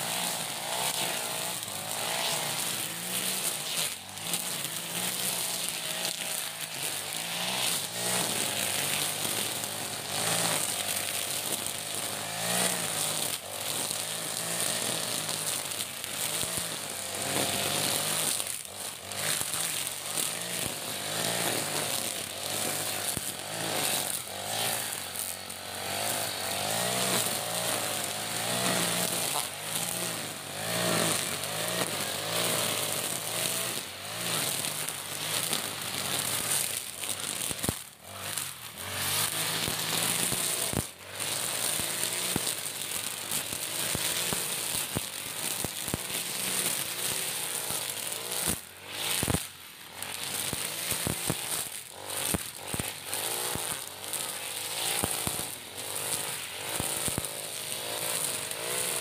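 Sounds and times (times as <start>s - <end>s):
brush cutter engine revving: 0.0s - 59.0s
trimmer line cutting grass: 0.0s - 59.0s.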